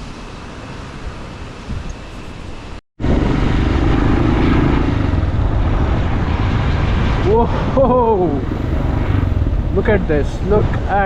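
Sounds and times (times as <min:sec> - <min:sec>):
faint outdoor ambience: 0:00.0 - 0:11.0
wind buffeting microphone: 0:01.1 - 0:11.0.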